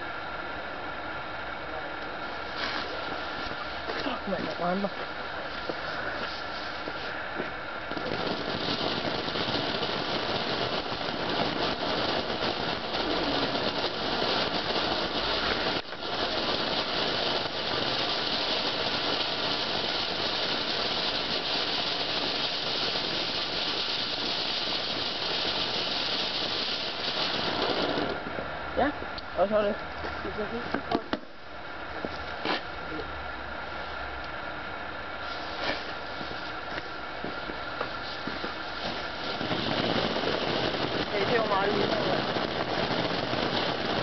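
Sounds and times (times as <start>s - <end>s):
firework fountain hissing and crackling: 0.0s - 44.0s.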